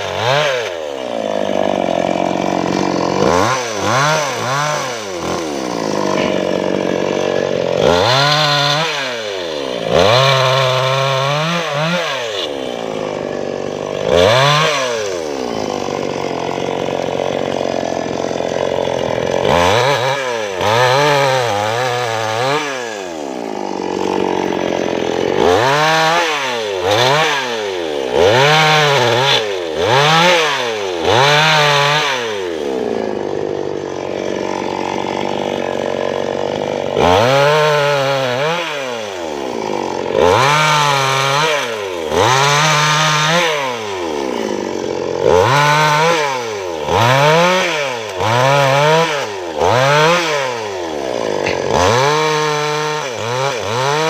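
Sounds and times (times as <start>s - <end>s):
chainsaw revving and cutting: 0.0s - 54.0s.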